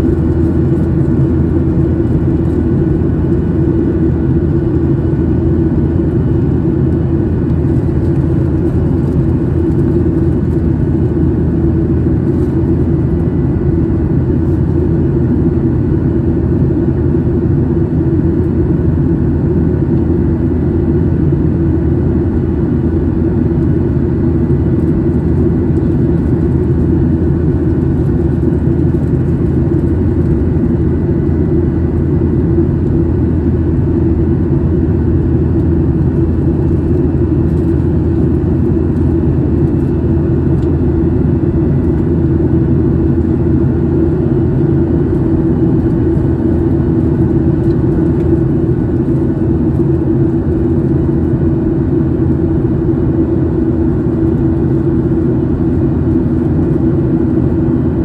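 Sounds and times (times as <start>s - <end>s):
constant low hum: 0.0s - 58.0s
jet engines and airflow rumble: 0.0s - 58.0s.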